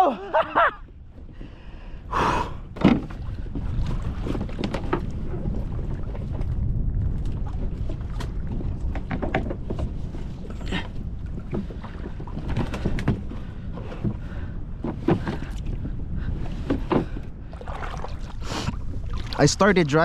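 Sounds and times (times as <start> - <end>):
water lapping against a kayak: 0.0 - 20.0
wind rumbling on microphone: 0.0 - 20.0.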